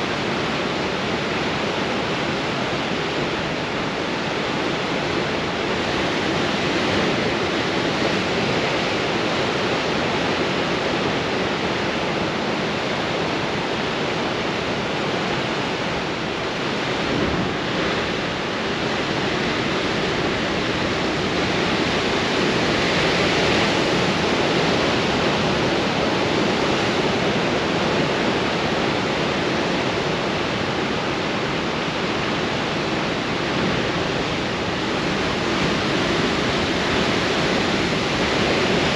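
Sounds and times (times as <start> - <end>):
strong wind: 0.0 - 38.9.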